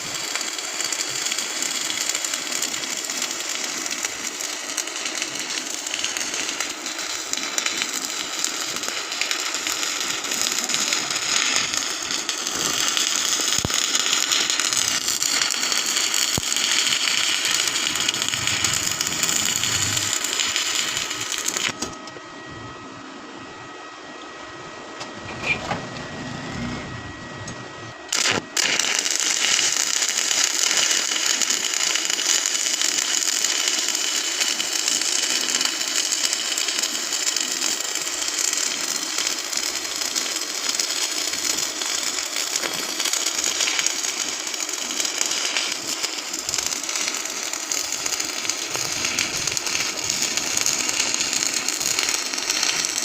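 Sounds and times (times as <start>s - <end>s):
welding arc crackling and sizzling: 0.0s - 22.2s, 25.0s - 53.0s.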